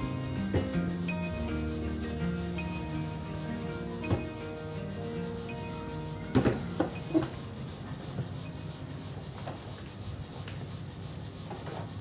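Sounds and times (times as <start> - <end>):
background music: 0.0 - 10.3.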